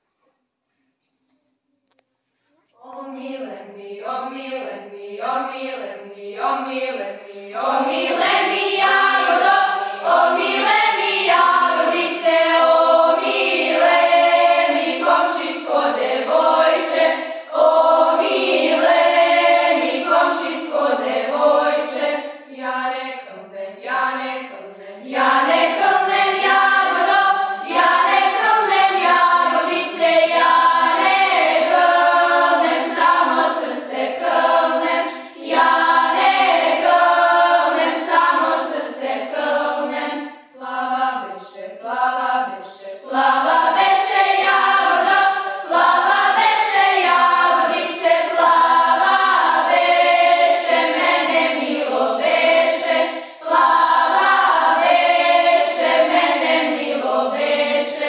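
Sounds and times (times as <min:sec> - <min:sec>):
girls singing unaccompanied: 0:02.8 - 0:58.0.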